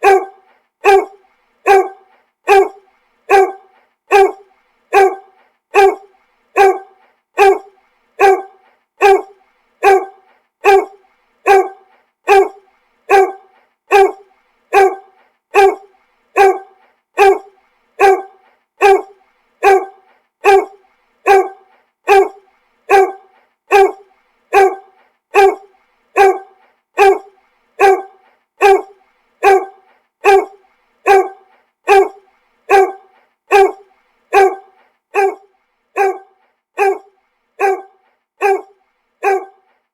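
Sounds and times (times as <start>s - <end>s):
dog barking: 0.0s - 39.7s.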